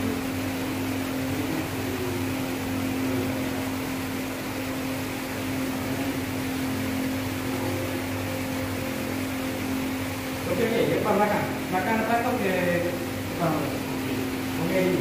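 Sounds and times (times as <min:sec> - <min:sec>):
fan motor hum: 0:00.0 - 0:15.0.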